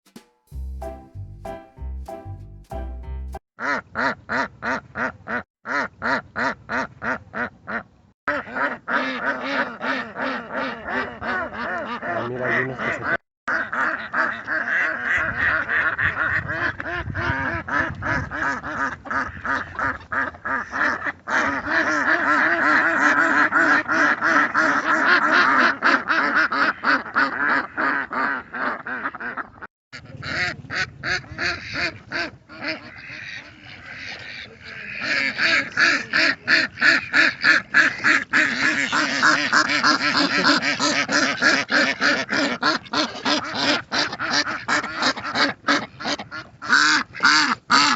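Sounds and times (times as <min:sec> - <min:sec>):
ducks quacking: 0:03.6 - 0:47.9.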